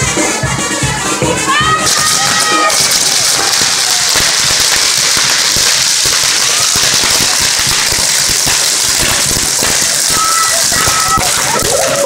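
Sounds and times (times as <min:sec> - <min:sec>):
hissing spark fountains: 0:01.8 - 0:12.0
firecracker pops and cracks: 0:01.9 - 0:12.0.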